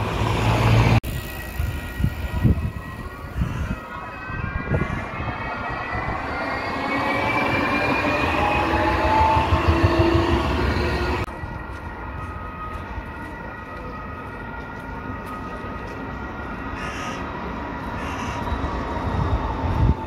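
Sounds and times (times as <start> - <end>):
street noise: 0.0 - 20.0
tram electric drive whine: 0.0 - 20.0
tram low rumble: 0.0 - 20.0.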